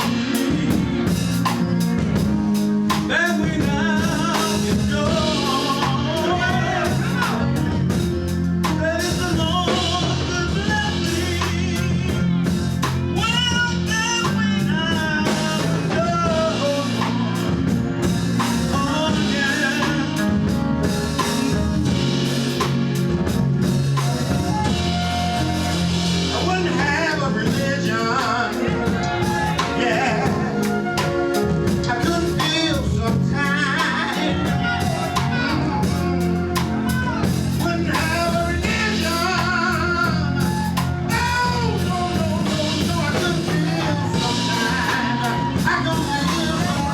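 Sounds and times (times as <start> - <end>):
person singing: 0.0 - 2.3, 2.9 - 22.7, 24.0 - 46.9
bass line: 0.0 - 46.9
drum kit beat: 0.0 - 46.9
gospel band playing: 0.0 - 46.9.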